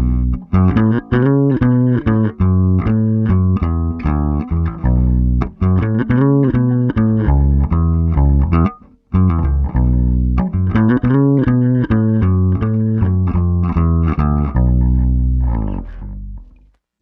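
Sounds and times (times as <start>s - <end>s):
electric bass guitar riff: 0.0s - 16.7s.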